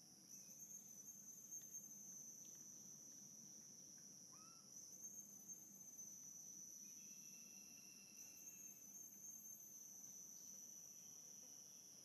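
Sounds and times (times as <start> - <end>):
insect chirp: 0.0 - 12.0
insects droning: 0.0 - 12.0.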